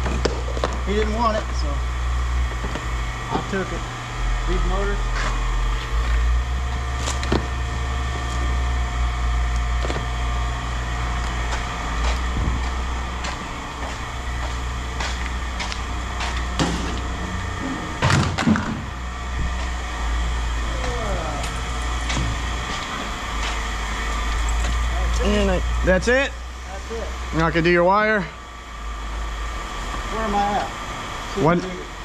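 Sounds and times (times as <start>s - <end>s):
heavy engine idling: 0.0s - 32.0s.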